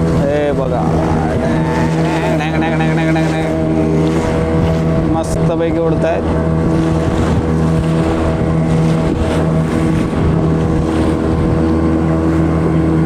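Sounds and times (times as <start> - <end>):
boat engine running: 0.0 - 13.0
water noise: 0.0 - 13.0
wind noise: 0.0 - 13.0.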